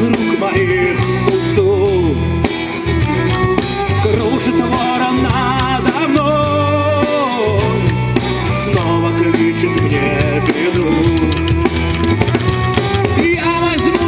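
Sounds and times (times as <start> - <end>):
pop-rock song with vocals: 0.0 - 14.0.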